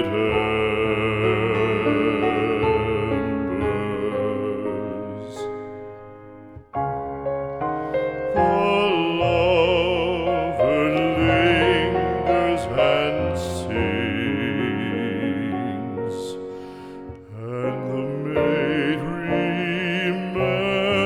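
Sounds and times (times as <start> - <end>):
piano accompaniment: 0.0 - 21.0.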